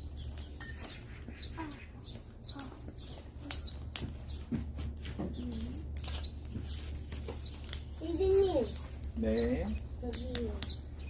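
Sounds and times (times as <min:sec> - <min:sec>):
small bird chirping: 0:00.0 - 0:04.6, 0:05.3 - 0:11.0
steady low hum: 0:00.0 - 0:11.0.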